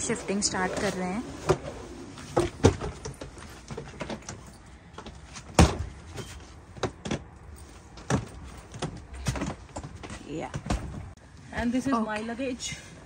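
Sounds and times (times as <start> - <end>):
suitcases knocking and rattling: 0.4 - 11.2.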